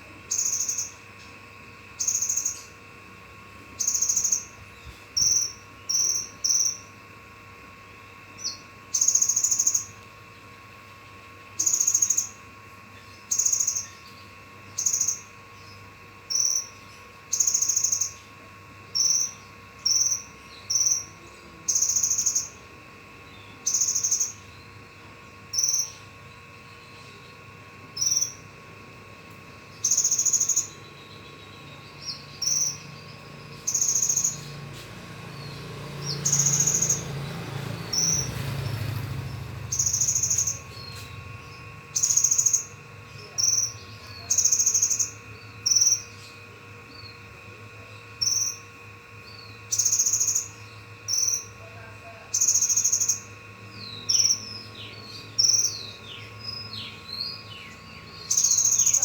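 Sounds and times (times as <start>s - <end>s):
bird buzzy calls: 0.0s - 59.0s
faint hum: 0.0s - 59.0s.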